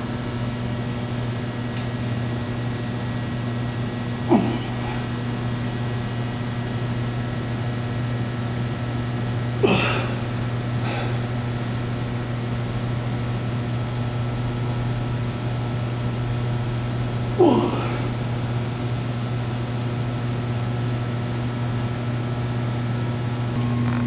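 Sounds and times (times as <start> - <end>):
room noise hum: 0.0 - 24.0.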